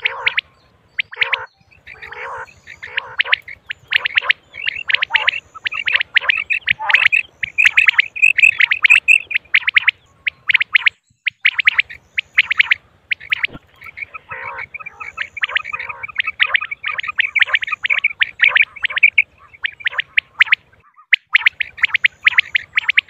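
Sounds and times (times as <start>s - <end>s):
quail chirping calls: 0.0s - 23.0s.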